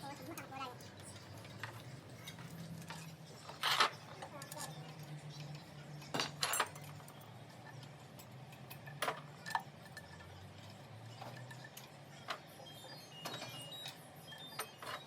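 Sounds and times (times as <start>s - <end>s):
sharp knocks and clinks: 1.1s - 15.0s.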